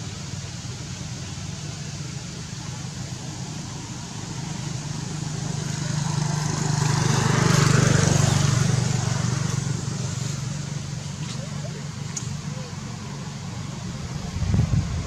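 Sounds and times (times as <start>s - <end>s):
vehicle engine passing by: 2.6s - 15.0s.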